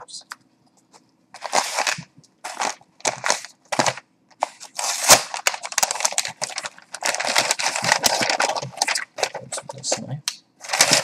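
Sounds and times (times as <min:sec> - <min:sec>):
packing paper crinkling: 0:01.4 - 0:10.0, 0:10.6 - 0:11.0.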